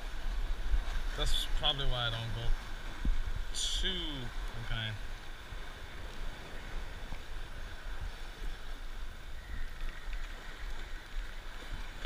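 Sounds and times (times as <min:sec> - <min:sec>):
surf washing against rocks: 0:00.0 - 0:12.0
wind buffeting microphone: 0:00.0 - 0:12.0.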